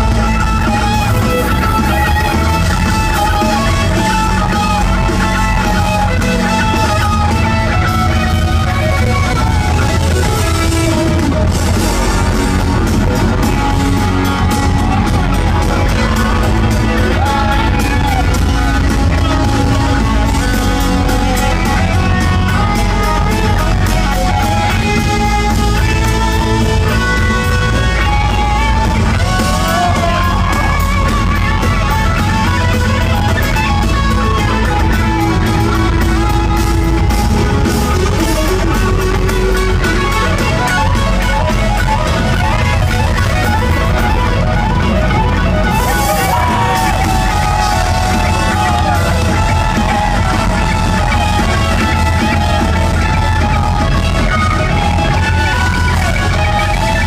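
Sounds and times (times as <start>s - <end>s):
drum beat: 0.0s - 57.0s
electric guitar lines: 0.0s - 57.0s
live rock band: 0.0s - 57.0s.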